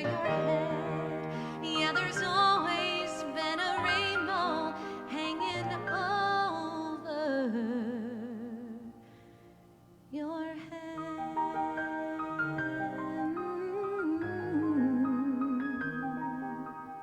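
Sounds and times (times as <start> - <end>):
person singing with vibrato: 0.0 - 9.3, 10.1 - 17.0.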